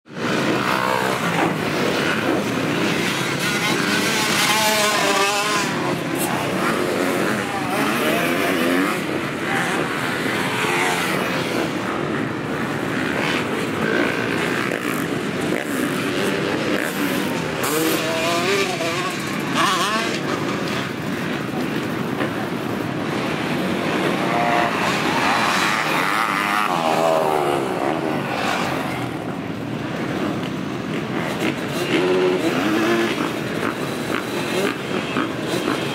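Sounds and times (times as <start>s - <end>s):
motocross bike engines revving: 0.1s - 35.9s.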